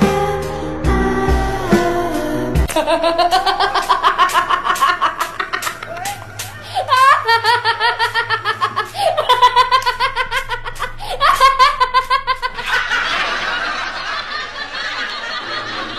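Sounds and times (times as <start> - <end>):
high-pitched laughter: 2.7 - 15.9.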